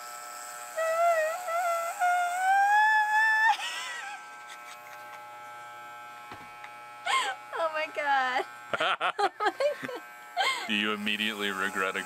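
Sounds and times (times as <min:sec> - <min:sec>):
electric hair clippers buzzing: 0:00.0 - 0:12.0.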